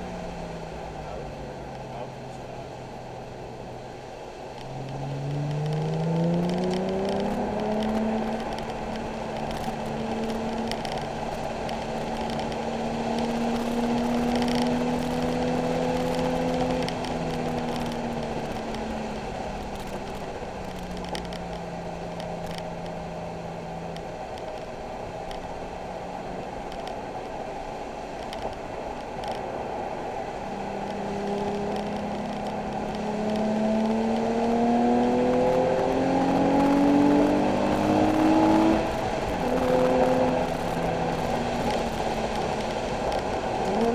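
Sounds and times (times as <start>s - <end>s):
car engine accelerating: 0.0s - 27.5s, 28.2s - 43.9s
road noise rush: 0.0s - 43.9s.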